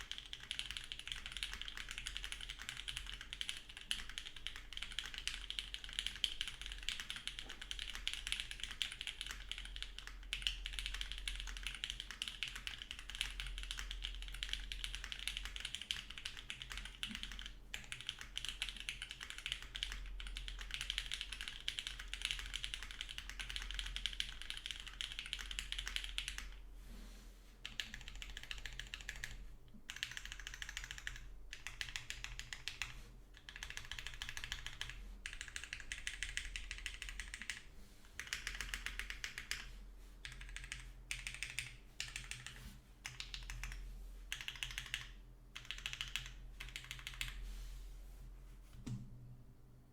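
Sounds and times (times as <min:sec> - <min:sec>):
mechanical keyboard typing: 0:00.0 - 0:26.6, 0:27.6 - 0:37.6, 0:38.2 - 0:47.4.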